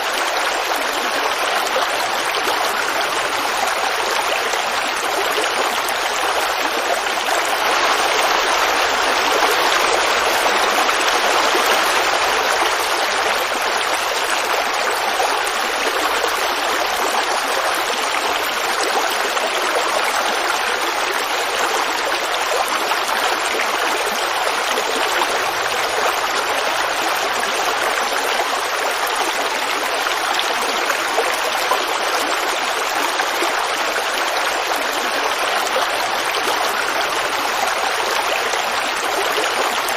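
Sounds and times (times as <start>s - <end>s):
creek rushing over rocks: 0.0s - 39.9s.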